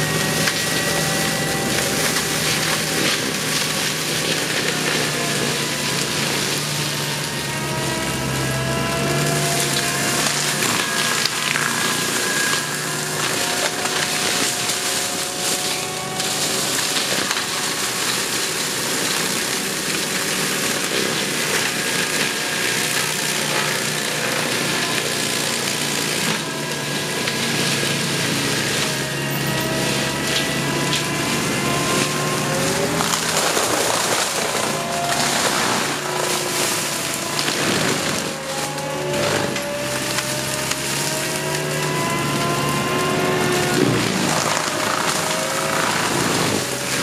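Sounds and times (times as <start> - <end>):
machine engine running: 0.0 - 47.0
mulcher grinding wood: 0.0 - 47.0.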